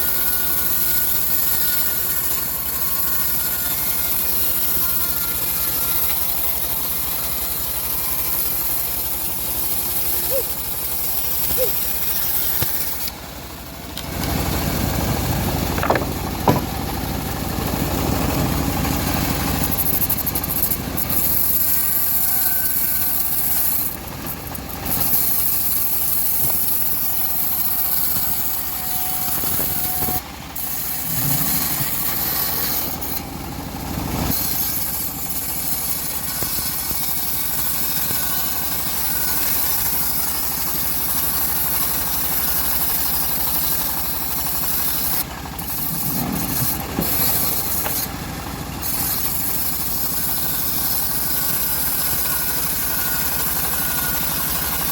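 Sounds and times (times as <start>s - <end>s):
bandsaw mill sawing log: 0.0s - 54.9s.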